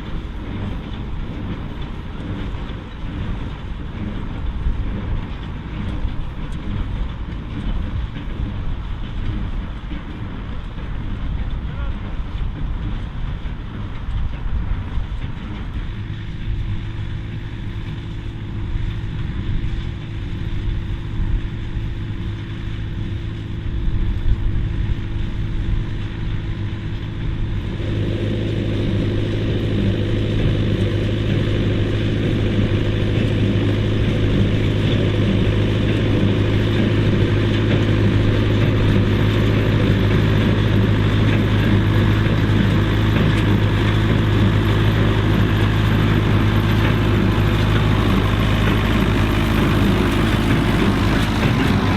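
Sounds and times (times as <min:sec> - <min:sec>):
baler machinery: 0:00.0 - 0:51.9
tractor diesel engine running: 0:00.0 - 0:51.9.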